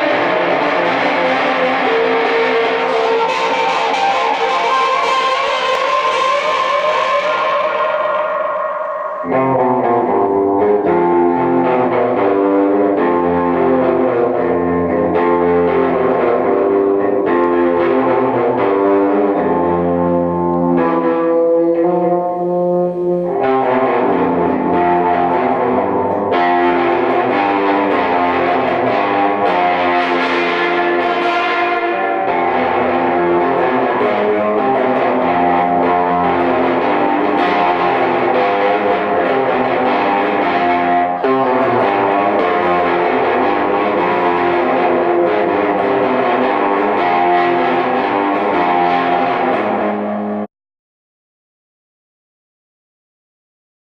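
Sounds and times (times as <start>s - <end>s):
distorted electric guitar music: 0.0s - 50.5s.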